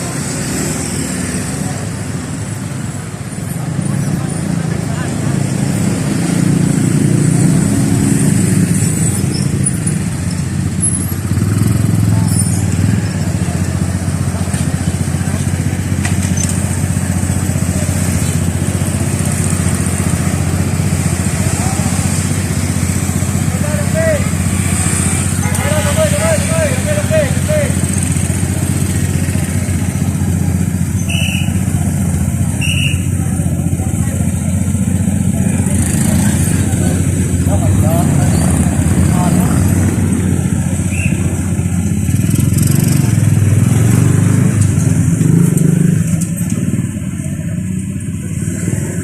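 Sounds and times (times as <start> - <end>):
motorcycle engines idling and moving: 0.0 - 49.0.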